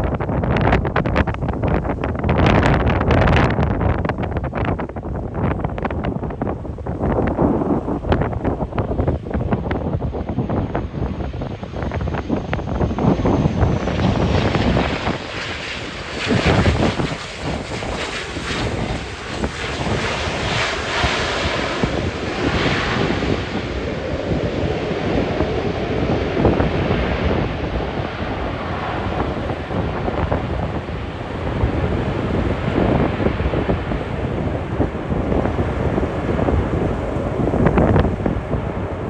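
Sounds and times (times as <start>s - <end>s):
aircraft engines: 0.0s - 39.0s
gusty wind buffeting microphone: 0.0s - 39.0s.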